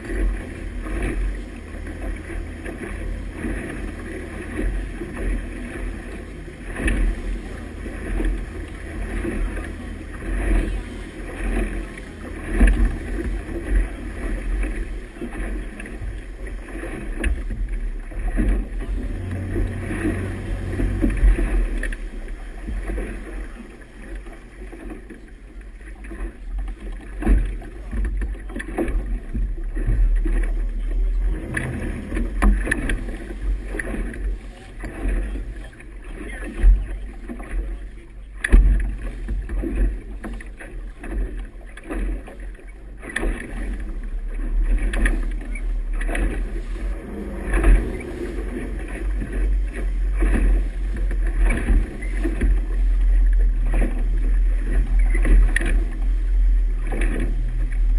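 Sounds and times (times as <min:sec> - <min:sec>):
motorboat engine rumble: 0:00.0 - 0:57.9
water slapping at hull: 0:00.0 - 0:57.9.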